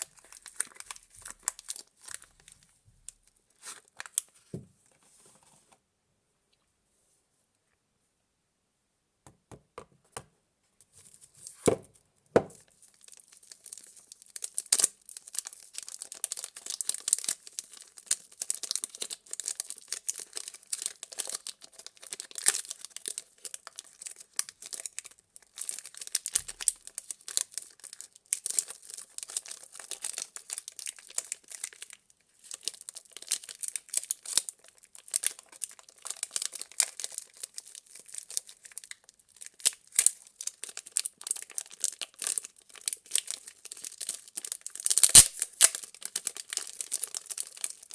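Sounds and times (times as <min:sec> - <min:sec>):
wrapper crinkling and tearing: 0:00.0 - 0:02.7, 0:03.5 - 0:04.5, 0:12.7 - 0:47.9.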